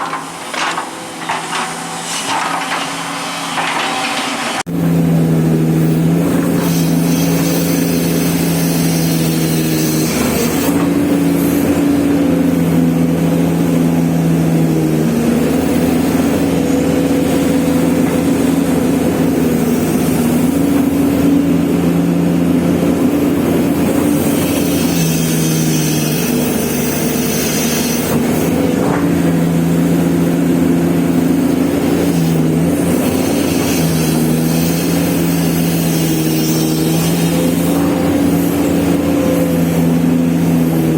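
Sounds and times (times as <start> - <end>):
excavator diesel engine working: 0.0 - 40.9.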